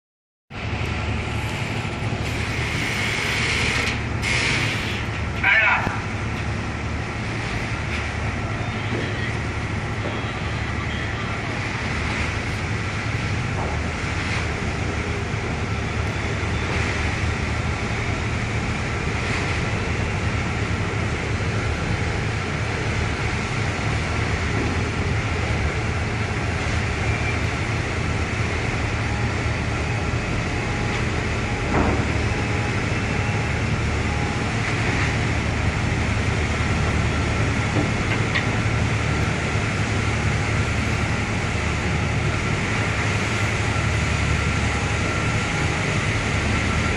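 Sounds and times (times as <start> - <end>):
ferry engines droning: 0.5 - 46.9.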